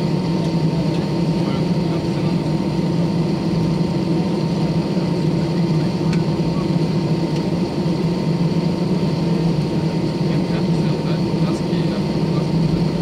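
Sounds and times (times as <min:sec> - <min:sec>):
aircraft cabin hum: 0:00.0 - 0:13.0.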